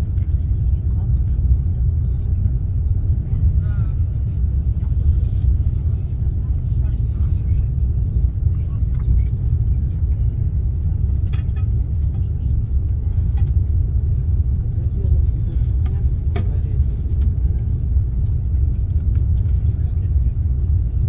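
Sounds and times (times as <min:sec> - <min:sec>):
train cabin low rumble: 0:00.0 - 0:21.0.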